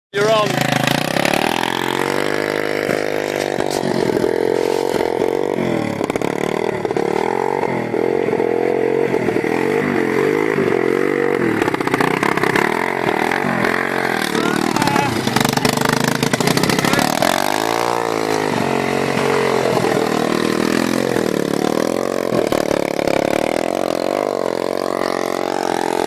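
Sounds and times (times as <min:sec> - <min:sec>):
small engine revving: 0:00.2 - 0:26.0.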